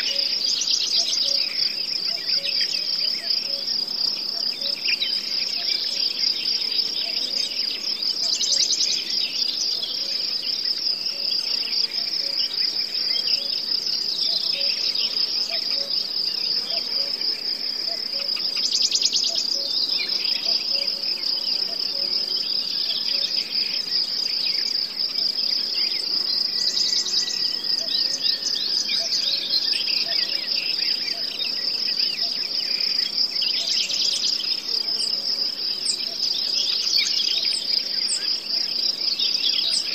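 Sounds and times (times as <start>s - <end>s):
insects trilling: 0.0s - 39.9s
loud fast insect trill: 0.0s - 39.9s.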